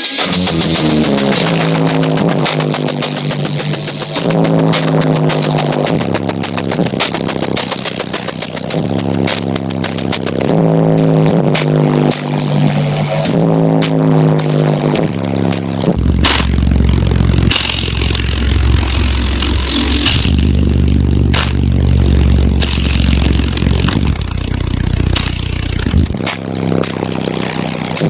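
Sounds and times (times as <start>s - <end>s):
heavy bass music from subwoofers: 0.0s - 28.0s.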